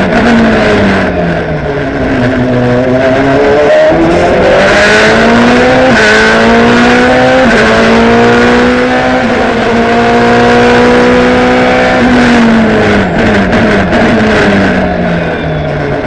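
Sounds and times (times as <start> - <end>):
racing engine at full throttle: 0.0 - 16.0.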